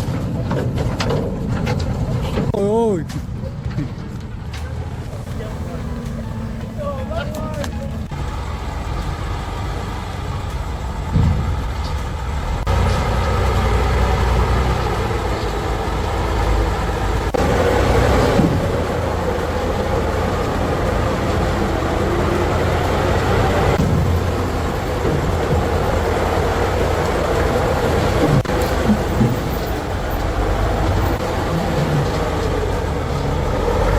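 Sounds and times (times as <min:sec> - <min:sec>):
heavy truck engine rumbling: 0:03.1 - 0:33.9.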